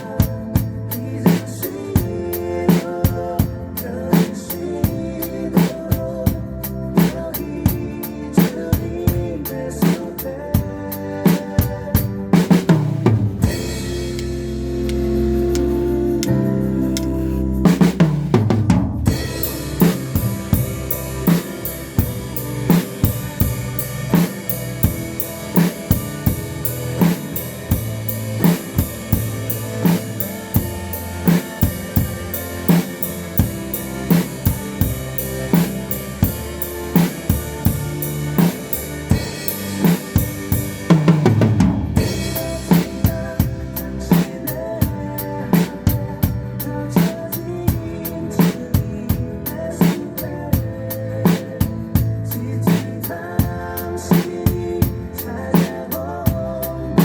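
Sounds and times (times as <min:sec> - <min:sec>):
drum kit playing: 0:00.0 - 0:57.0
worship song band track: 0:00.0 - 0:57.0.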